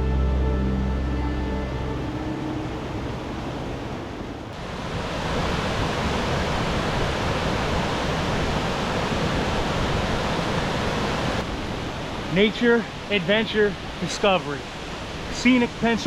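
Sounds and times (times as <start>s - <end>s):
stream and waterfall rushing: 0.0s - 16.0s.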